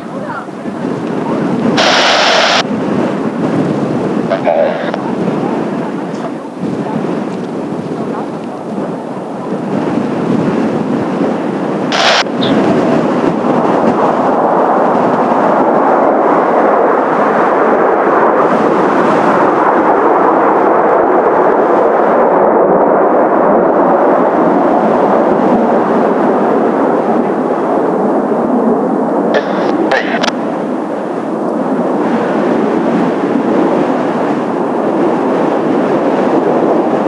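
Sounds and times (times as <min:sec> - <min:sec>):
jets roaring overhead: 0:00.0 - 0:37.0
wind buffeting microphone: 0:00.0 - 0:37.0.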